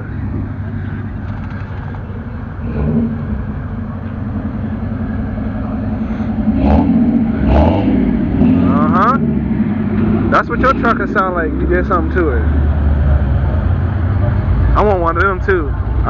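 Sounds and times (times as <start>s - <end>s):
car engine exhaust rumble: 0.0s - 16.0s.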